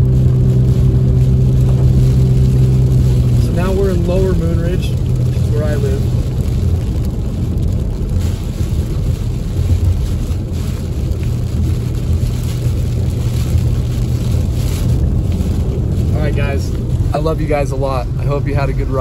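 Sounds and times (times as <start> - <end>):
car driving on wet road: 0.0 - 19.0
rain hitting windshield: 0.0 - 19.0.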